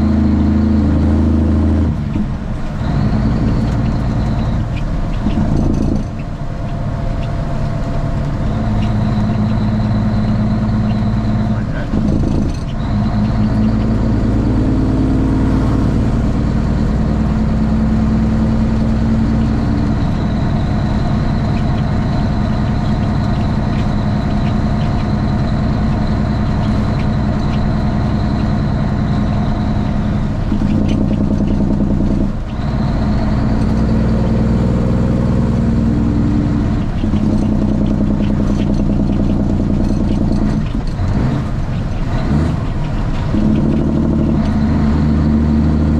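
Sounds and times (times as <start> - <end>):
diesel truck engine running loud: 0.0 - 45.9.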